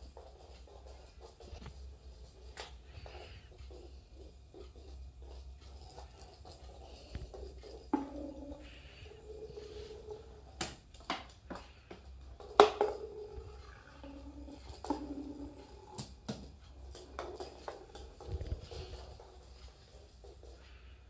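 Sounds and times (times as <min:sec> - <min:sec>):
rolling ball toy knocking on floor: 0:00.0 - 0:20.6
faint hum: 0:00.1 - 0:21.0.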